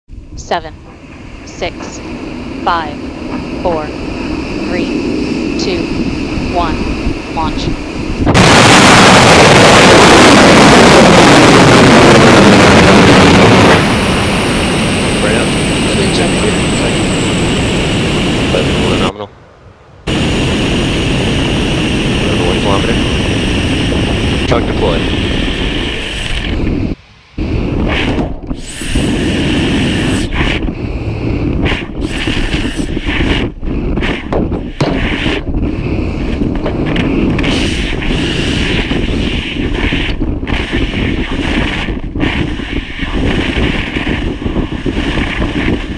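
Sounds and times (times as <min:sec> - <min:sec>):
rocket engines roaring: 0:00.1 - 0:45.9
wind buffeting microphone: 0:00.1 - 0:45.9.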